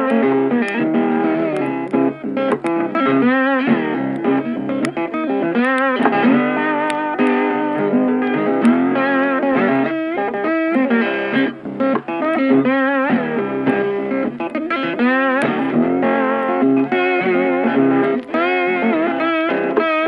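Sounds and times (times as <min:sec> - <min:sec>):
guitar background music: 0:00.0 - 0:20.0.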